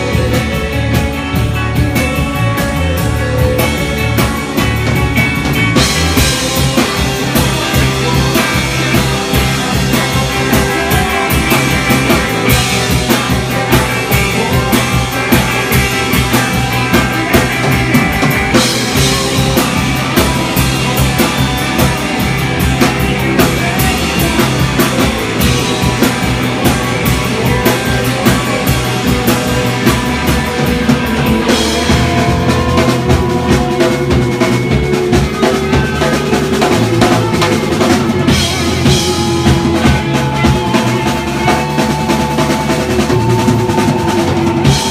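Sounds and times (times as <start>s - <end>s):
rock music with drums and guitar: 0.0s - 44.9s.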